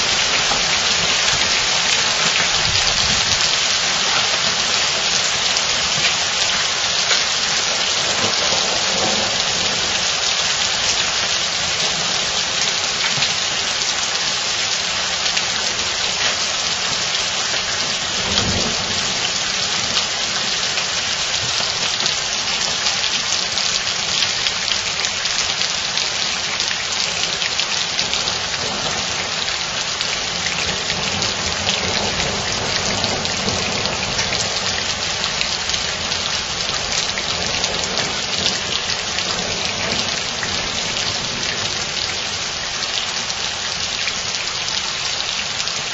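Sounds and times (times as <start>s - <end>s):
rain and hail on leaves: 0.0s - 45.9s.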